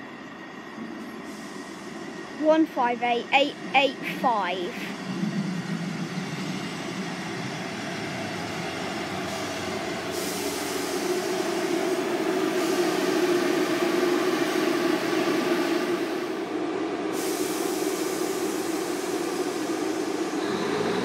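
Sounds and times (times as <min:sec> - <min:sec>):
diesel train engine drone: 0:00.0 - 0:21.0
train wheel noise: 0:00.0 - 0:21.0.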